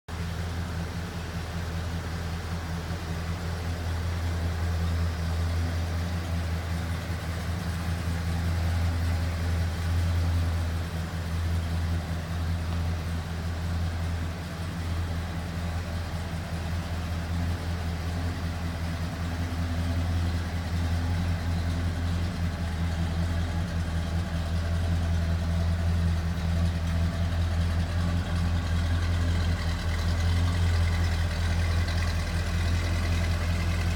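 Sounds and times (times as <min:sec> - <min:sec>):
pickup engine idling: 0:00.1 - 0:33.9.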